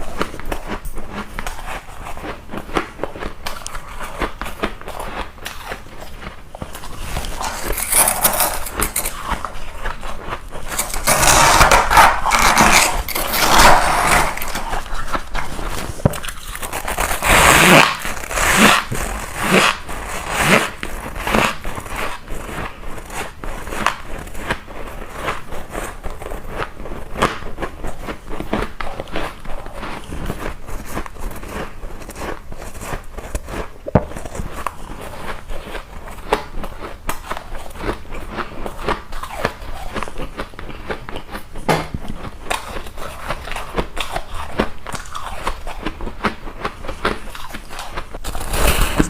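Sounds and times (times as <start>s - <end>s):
ice being crunched and chewed: 0.0s - 49.0s.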